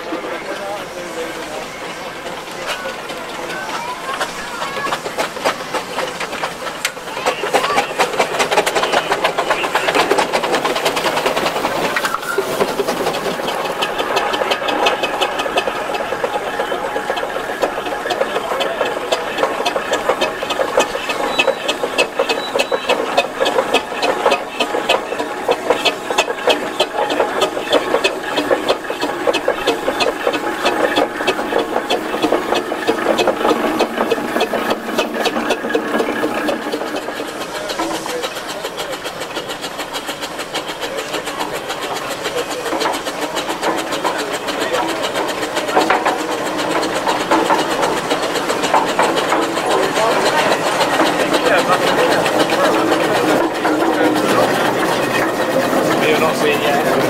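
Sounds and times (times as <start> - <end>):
steam engines clattering: 0.0 - 57.0.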